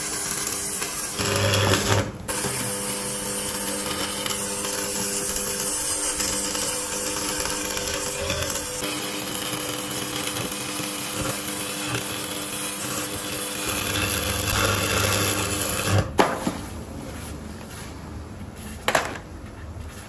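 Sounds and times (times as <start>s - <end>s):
power tool running: 0.0s - 16.2s.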